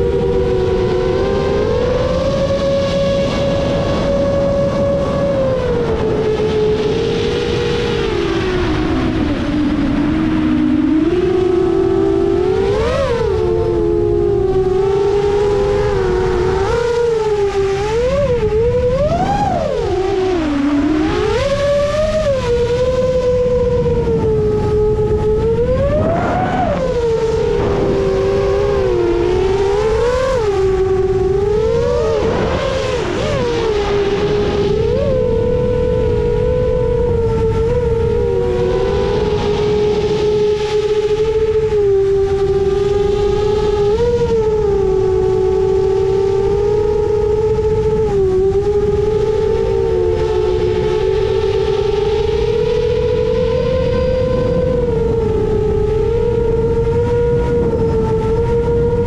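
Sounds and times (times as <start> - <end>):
drone motors whining: 0.0 - 59.0
wind rush: 0.0 - 59.0.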